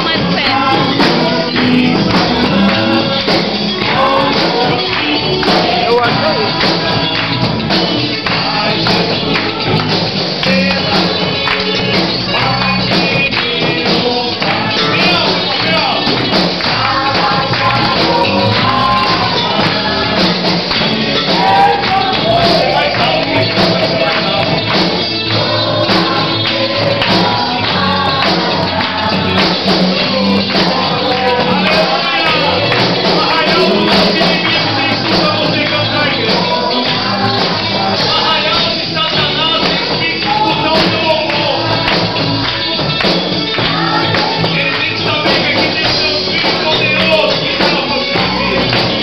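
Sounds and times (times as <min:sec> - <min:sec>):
man singing into a microphone: 0:00.0 - 0:07.0, 0:12.3 - 0:20.3, 0:21.3 - 0:29.4, 0:30.0 - 0:42.2, 0:43.8 - 0:49.0
electric guitar: 0:00.0 - 0:49.0
jingling percussion: 0:00.0 - 0:49.0.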